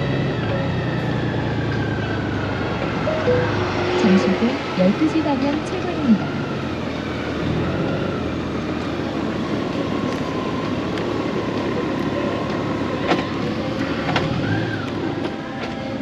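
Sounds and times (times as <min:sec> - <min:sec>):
road noise rushing: 0:00.0 - 0:16.0.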